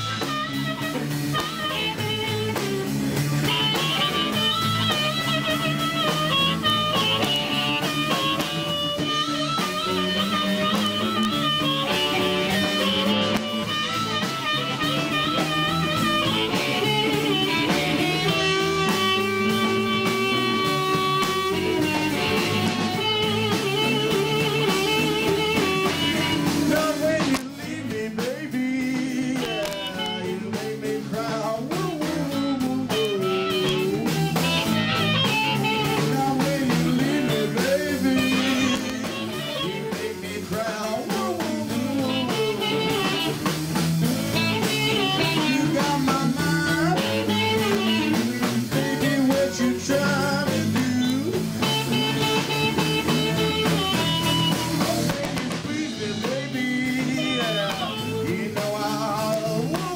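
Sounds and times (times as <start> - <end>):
amplified blues harmonica: 0.0 - 59.9
blues band playing: 0.0 - 59.9.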